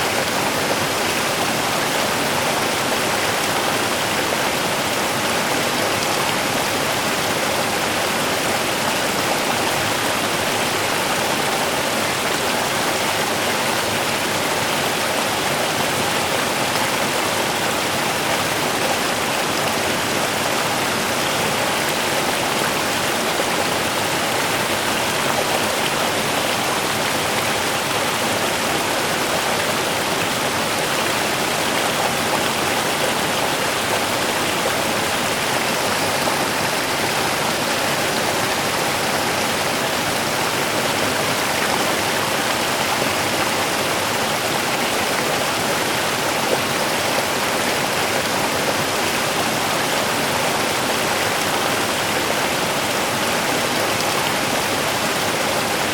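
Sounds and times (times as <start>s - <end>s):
river babbling over stones: 0.0s - 55.9s.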